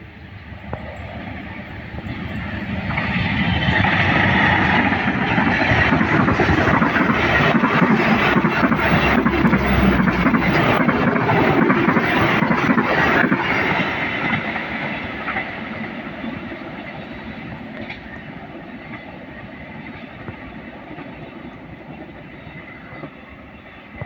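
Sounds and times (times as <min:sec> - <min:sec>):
train passing rumble: 0:00.0 - 0:24.0
train wheels clicking: 0:00.6 - 0:22.3.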